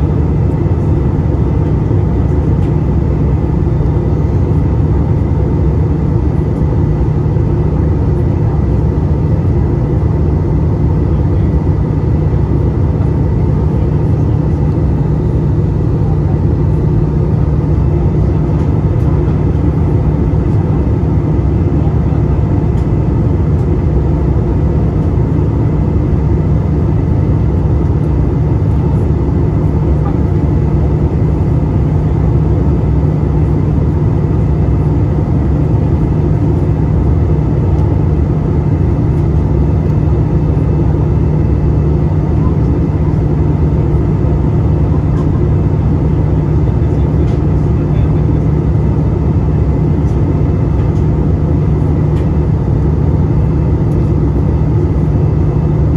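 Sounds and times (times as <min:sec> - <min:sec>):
low rumble of airflow and engines: 0:00.0 - 0:55.9.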